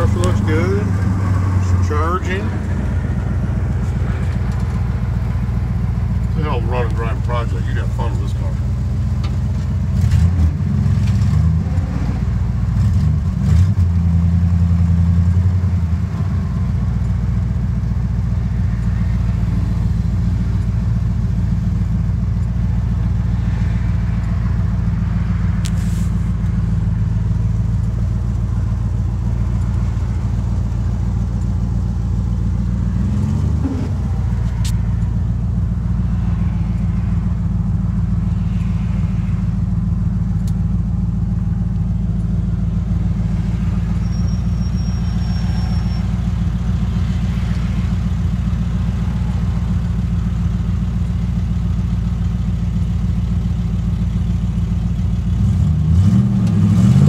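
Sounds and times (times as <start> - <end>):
car engine running: 0.0 - 55.9.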